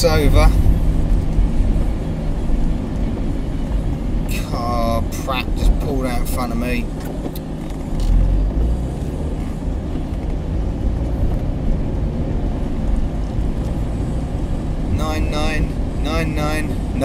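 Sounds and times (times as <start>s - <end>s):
car engine and road noise rumble: 0.0s - 17.0s.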